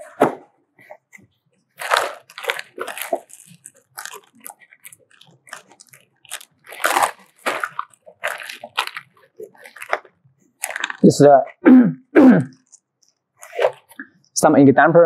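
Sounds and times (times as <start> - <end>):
plastic bags crinkling: 0.0 - 11.2, 12.6 - 14.0.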